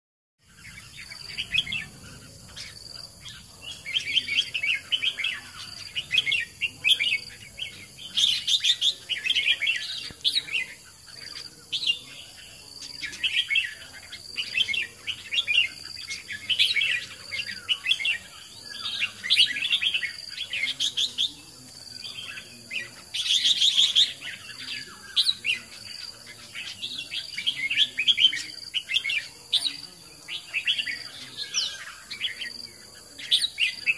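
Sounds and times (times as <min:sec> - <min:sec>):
bulbul chirping song: 0:00.4 - 0:33.9.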